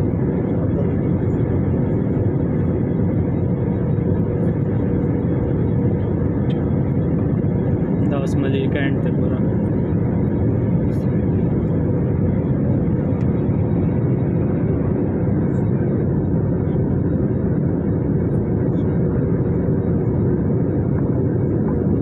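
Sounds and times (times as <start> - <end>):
jet engine noise in cabin: 0.0 - 22.0.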